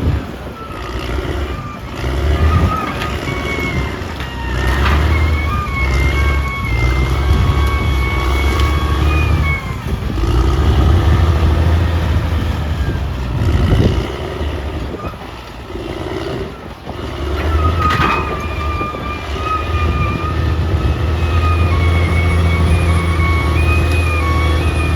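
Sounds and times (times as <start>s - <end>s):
bulldozer diesel engine rumbling: 0.0s - 24.9s.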